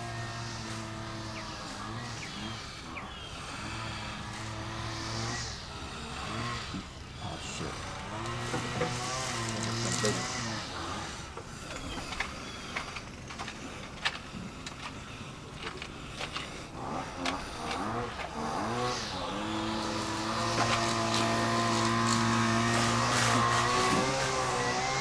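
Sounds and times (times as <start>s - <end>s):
mower engine running: 0.0s - 25.0s.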